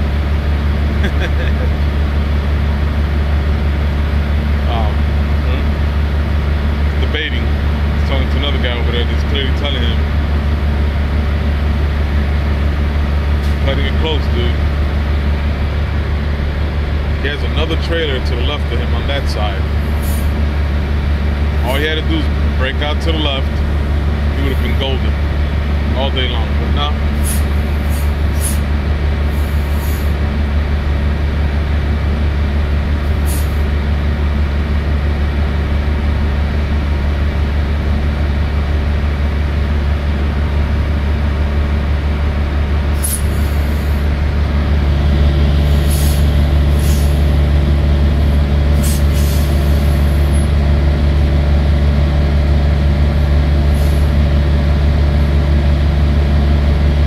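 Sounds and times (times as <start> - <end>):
steady hum: 0.0 - 57.0
truck diesel engine rumbling: 0.0 - 57.0.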